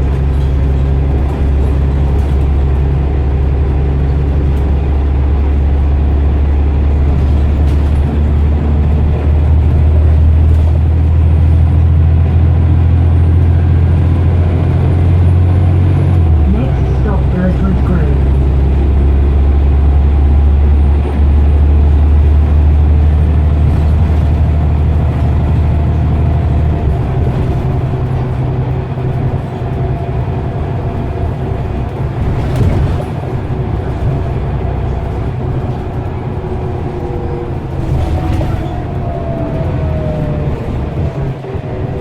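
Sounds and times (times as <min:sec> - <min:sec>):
bus engine accelerating: 0:00.0 - 0:42.0
steady engine whine: 0:00.0 - 0:42.0.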